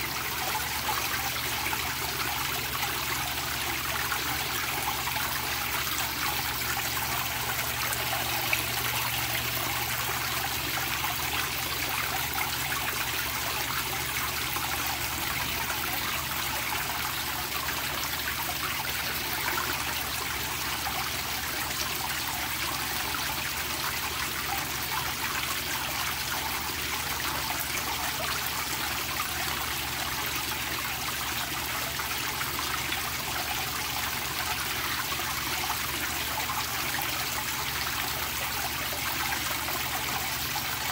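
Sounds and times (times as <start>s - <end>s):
water pouring into a tank: 0.0s - 40.9s.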